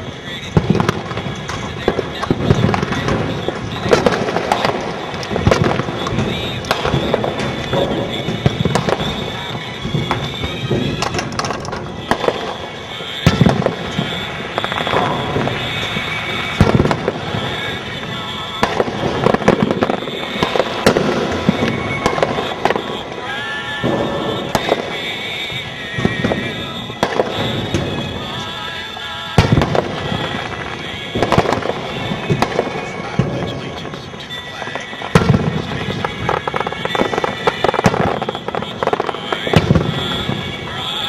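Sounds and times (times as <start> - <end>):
firework shells booming: 0.0 - 41.0
fireworks crackling: 0.0 - 41.0.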